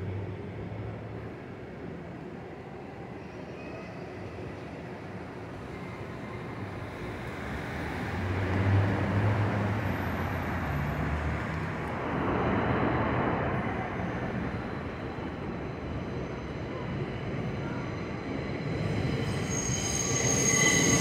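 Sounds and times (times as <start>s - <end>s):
subway train rumbling on steel track: 0.0s - 21.0s.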